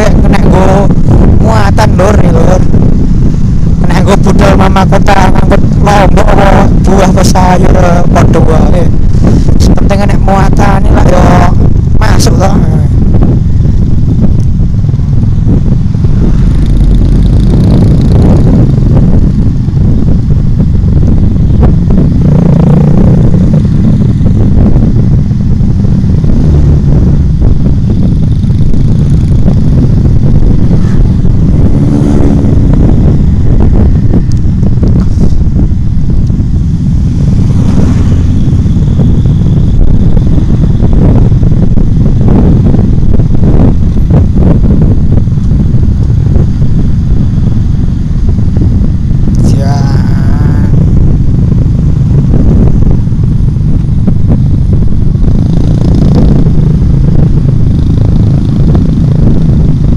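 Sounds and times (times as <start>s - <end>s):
motorcycle engine: 0.0s - 59.9s
passing motorcycles: 0.0s - 59.9s
wind rumble on microphone: 0.0s - 59.9s.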